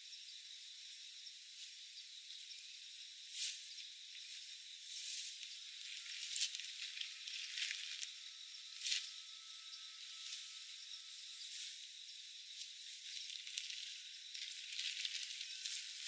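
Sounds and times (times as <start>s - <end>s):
steady high hiss: 0.8s - 16.0s.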